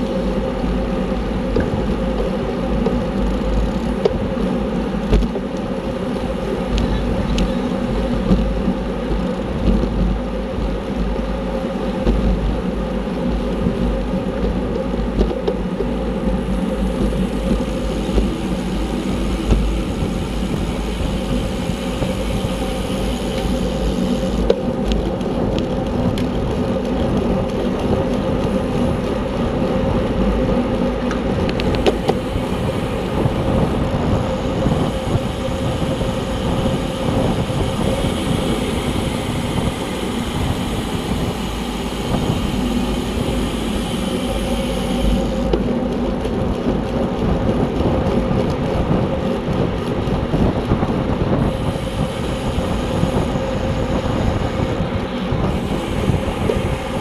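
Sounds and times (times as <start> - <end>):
bicycle tyres and drivetrain humming: 0.0 - 57.0
wind buffeting microphone: 0.0 - 57.0.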